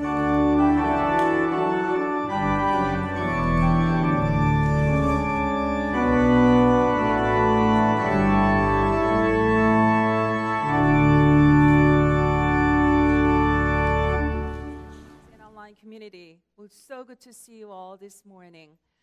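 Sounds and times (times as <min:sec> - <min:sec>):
church organ chords: 0:00.0 - 0:15.3.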